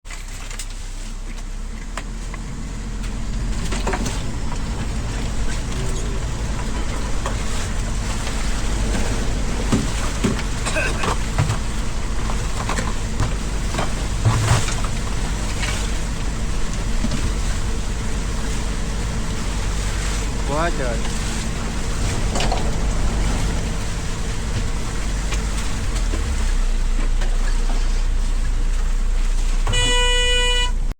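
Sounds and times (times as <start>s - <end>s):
low engine rumble: 0.1s - 30.9s
wind and water rushing: 2.8s - 29.6s.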